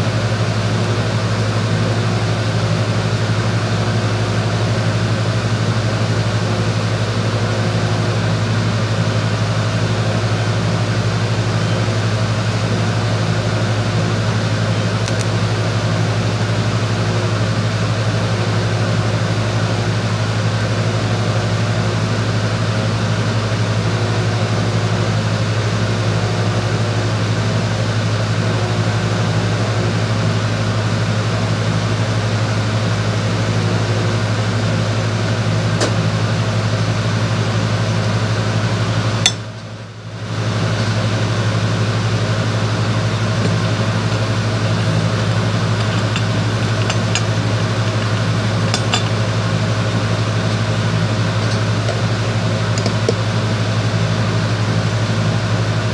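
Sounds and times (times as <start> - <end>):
loud machine hum: 0.0 - 55.9.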